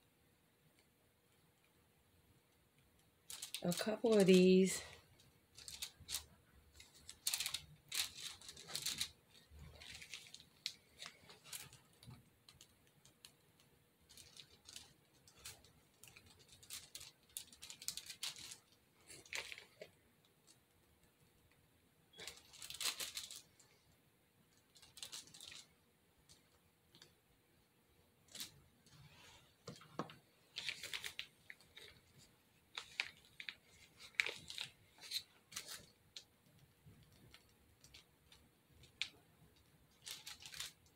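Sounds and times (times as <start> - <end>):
plastic piping bag crinkling: 2.8 - 21.5, 22.1 - 40.9.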